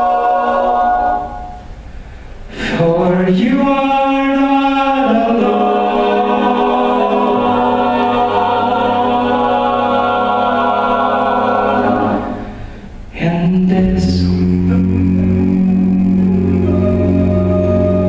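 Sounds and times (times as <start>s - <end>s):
choir singing wordless chords: 0.0s - 18.0s.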